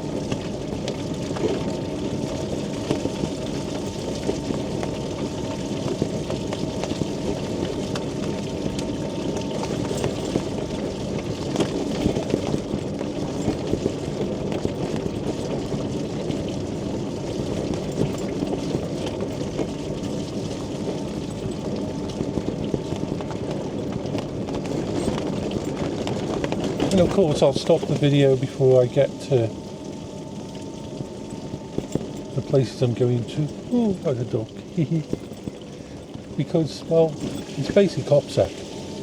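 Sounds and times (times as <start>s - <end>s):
faint steady whine: 0.0s - 39.0s
mobility scooter motor rumbling: 0.0s - 39.0s
small clicks and rattles: 0.0s - 39.0s.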